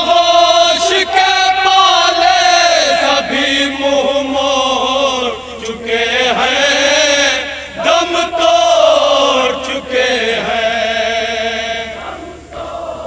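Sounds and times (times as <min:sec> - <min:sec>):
men chanting a lament: 0:00.0 - 0:13.0.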